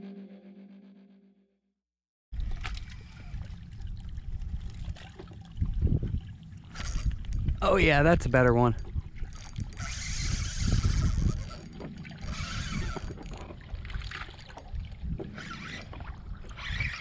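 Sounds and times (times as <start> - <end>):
water lapping against boat hull: 2.4 - 17.0
wind rumbling on microphone: 2.4 - 17.0.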